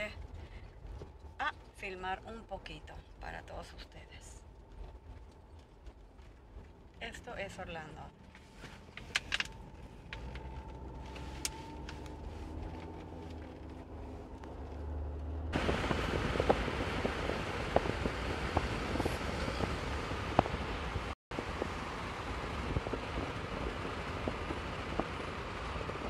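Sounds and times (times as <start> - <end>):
car engine and tyre rumble: 0.0 - 26.0
wind and road noise rush: 0.0 - 26.0
wind crackles on microphone: 0.0 - 26.0.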